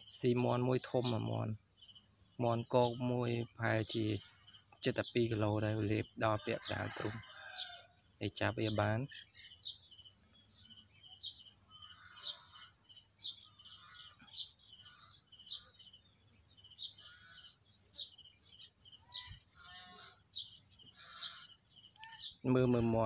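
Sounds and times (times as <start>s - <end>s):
bird calling with a trill: 0.0s - 23.0s.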